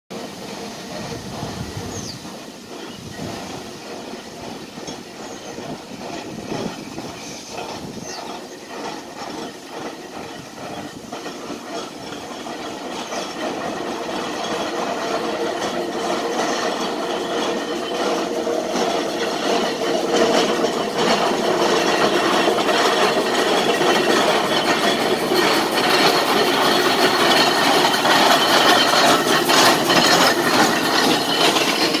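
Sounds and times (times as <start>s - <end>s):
steam engine chuffing: 0.1s - 32.0s
mechanical clanking: 0.4s - 32.0s.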